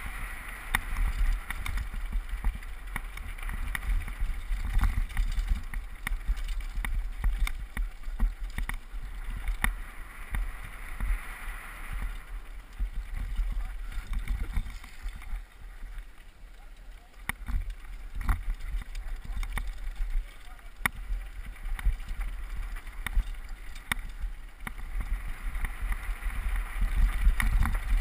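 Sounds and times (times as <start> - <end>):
low wind rumble on microphone: 0.0 - 28.0
mountain bike clattering over rocks: 0.6 - 10.6, 12.0 - 28.0.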